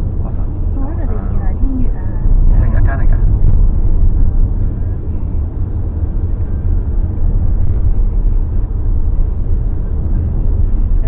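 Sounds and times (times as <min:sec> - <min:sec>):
road and tyre rumble in car: 0:00.0 - 0:11.0.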